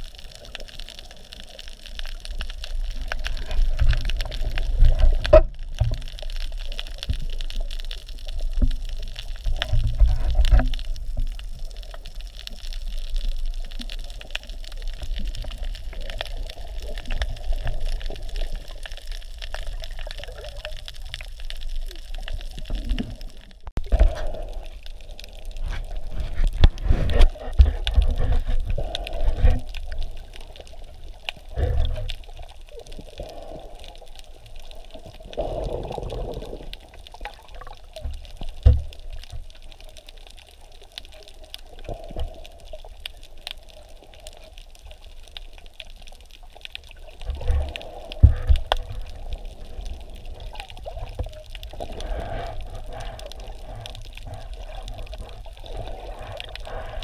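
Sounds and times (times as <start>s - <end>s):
faint crackling clicks: 0.0s - 57.0s
underwater sloshing and rushing: 0.0s - 57.0s.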